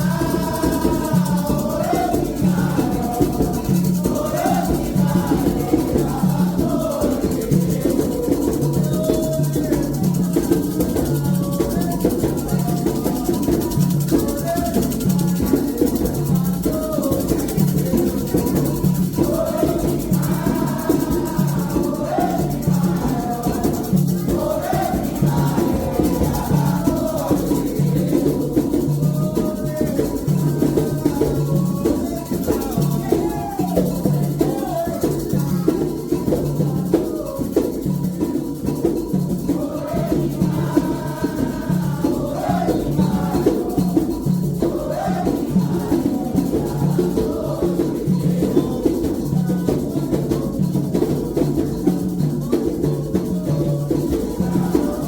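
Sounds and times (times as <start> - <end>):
hand drums rhythm: 0.0 - 55.0
shaken rattle: 0.0 - 55.0
voices singing a chant: 0.0 - 55.0.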